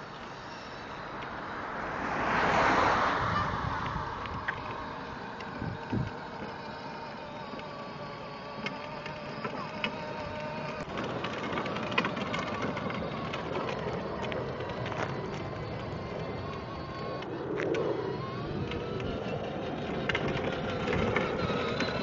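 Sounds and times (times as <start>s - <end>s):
electric toy motor whine: 0.0s - 1.5s, 4.2s - 22.0s
plastic wheels clicking and rattling: 4.2s - 22.0s.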